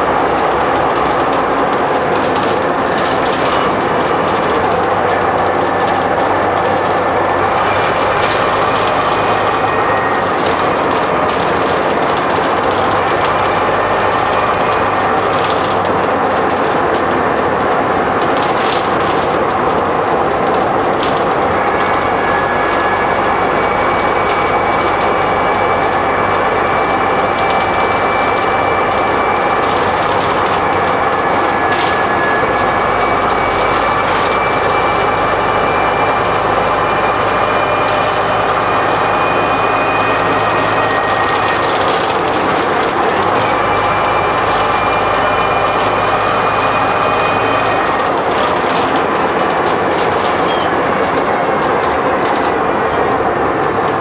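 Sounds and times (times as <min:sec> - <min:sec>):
bus body rattles: 0:00.0 - 0:54.0
bus engine drone: 0:00.0 - 0:54.0.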